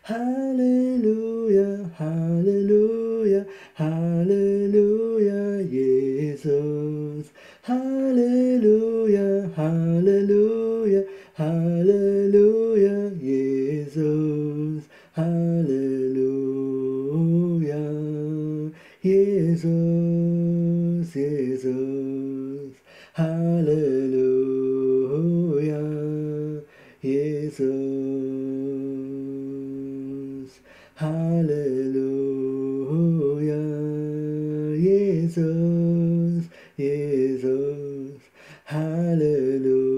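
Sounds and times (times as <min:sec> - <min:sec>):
man singing unaccompanied: 0:00.0 - 0:39.9.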